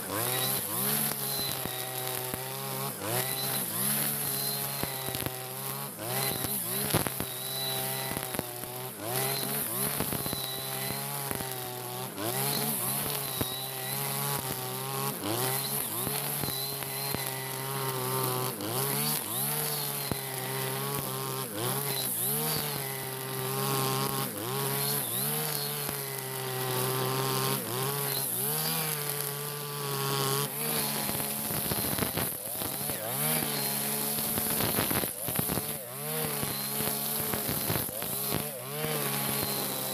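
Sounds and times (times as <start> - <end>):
brush cutter engine high revs: 0.0 - 39.9
trimmer line cutting grass: 0.0 - 39.9.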